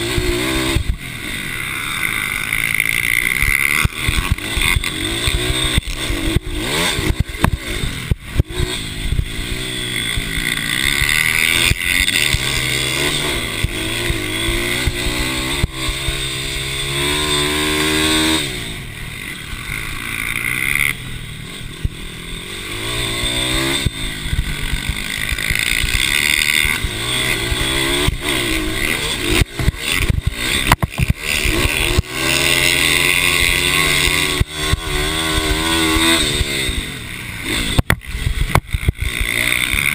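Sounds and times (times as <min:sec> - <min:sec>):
mini bike engines revving: 0:00.0 - 0:39.9.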